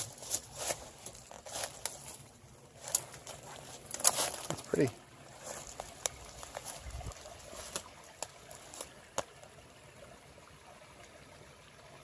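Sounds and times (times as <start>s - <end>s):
creek trickling: 0.0s - 12.0s.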